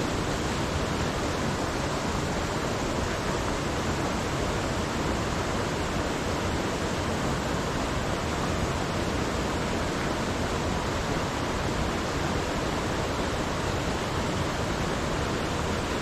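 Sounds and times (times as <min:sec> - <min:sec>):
creek rushing over rocks: 0:00.0 - 0:16.0.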